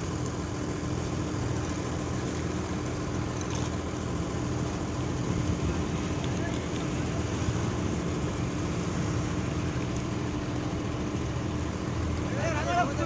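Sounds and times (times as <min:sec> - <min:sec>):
heavy engine humming: 0:00.0 - 0:13.0.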